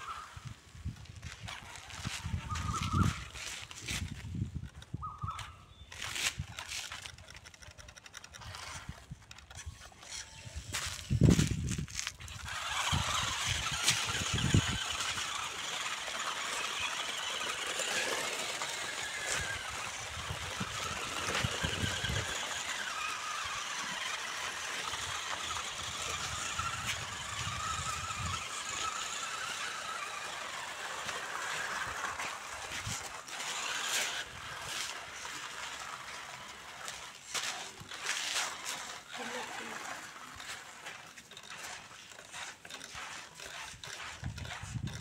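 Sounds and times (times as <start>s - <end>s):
toy car motor whine: 0.0s - 45.0s.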